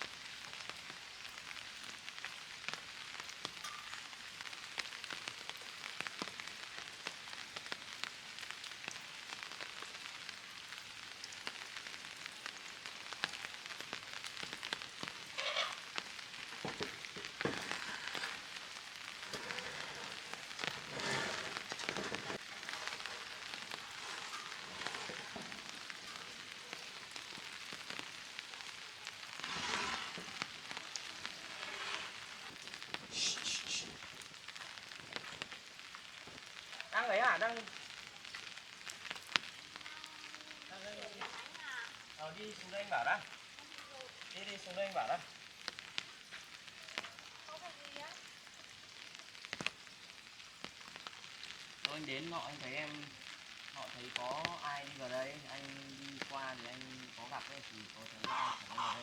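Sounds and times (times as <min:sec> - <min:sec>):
rain pattering on surfaces: 0:00.0 - 0:59.0.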